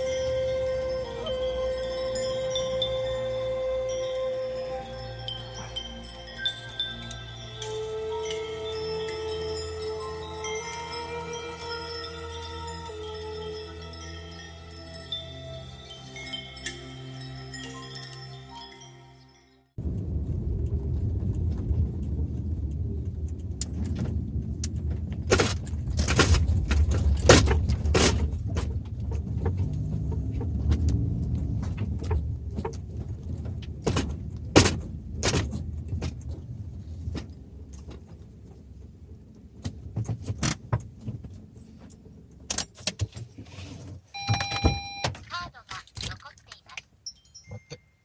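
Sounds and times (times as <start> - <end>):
car road rumble: 0.0 - 16.0, 19.8 - 45.6.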